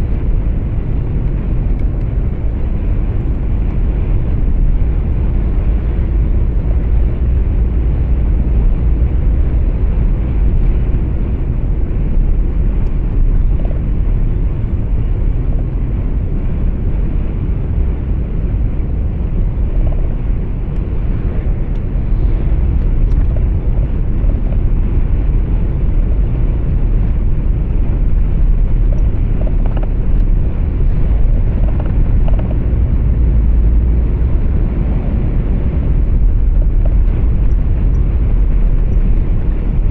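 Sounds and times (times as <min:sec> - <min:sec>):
truck engine and tyre rumble: 0:00.0 - 0:39.9.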